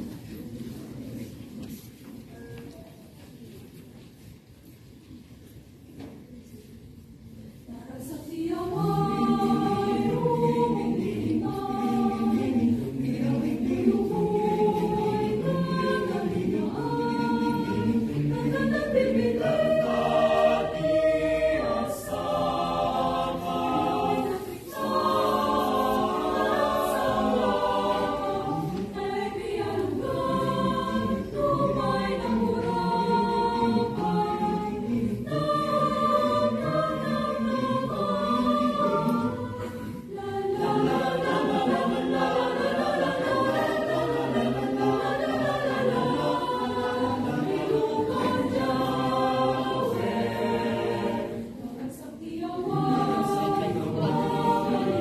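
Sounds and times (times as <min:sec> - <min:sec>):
choir singing in harmony: 0:07.6 - 0:55.0.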